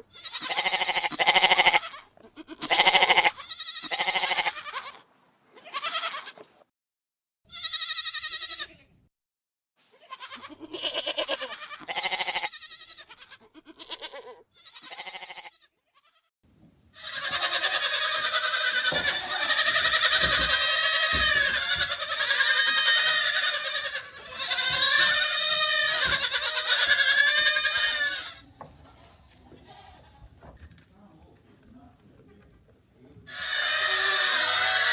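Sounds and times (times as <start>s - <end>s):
goat bleating: 0.0s - 6.4s, 7.5s - 8.8s, 9.9s - 16.3s, 17.0s - 30.3s, 33.3s - 34.9s.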